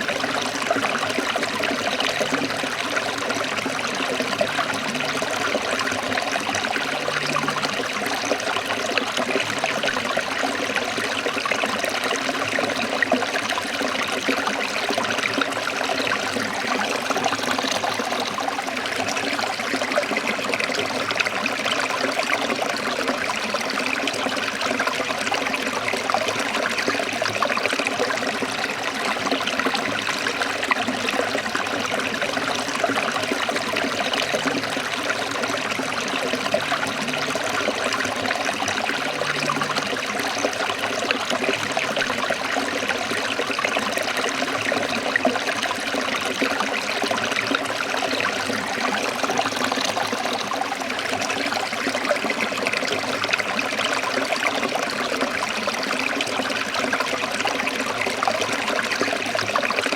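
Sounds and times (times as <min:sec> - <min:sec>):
stream babbling over rocks: 0:00.0 - 0:59.9.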